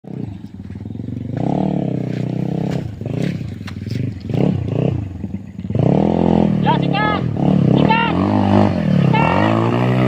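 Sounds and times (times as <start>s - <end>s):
motorbike engine running rough: 0.1s - 10.0s.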